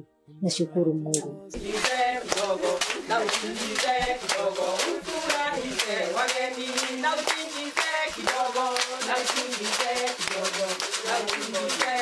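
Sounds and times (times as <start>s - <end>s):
group singing: 1.4s - 12.0s
hand clapping: 1.6s - 12.0s.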